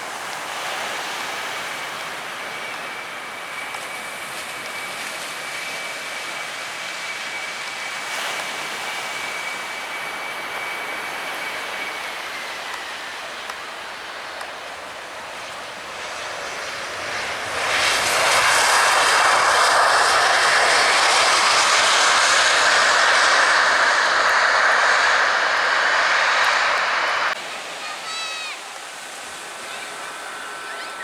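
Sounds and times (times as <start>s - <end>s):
airliner engines passing: 0.0s - 31.0s.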